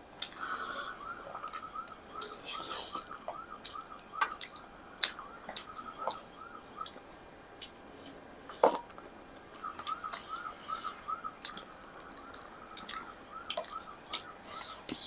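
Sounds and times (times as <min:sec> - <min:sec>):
faint high chirping: 0:00.0 - 0:15.0.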